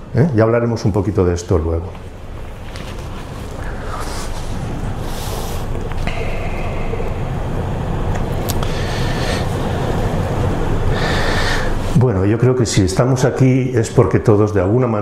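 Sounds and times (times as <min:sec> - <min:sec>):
steady rumbling noise: 0:00.0 - 0:15.0.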